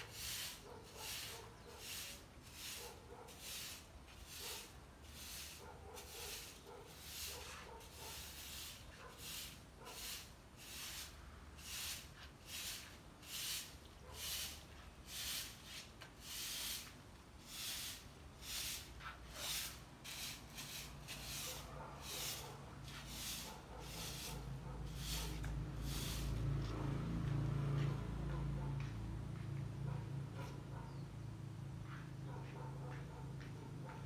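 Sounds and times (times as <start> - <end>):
broom sweeping leaves on paving: 0.0 - 28.0.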